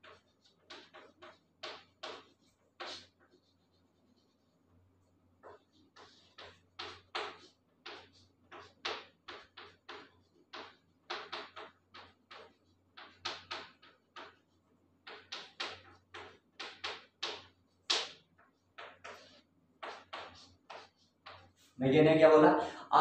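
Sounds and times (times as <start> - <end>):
chalk scratching on blackboard: 0.0 - 21.8.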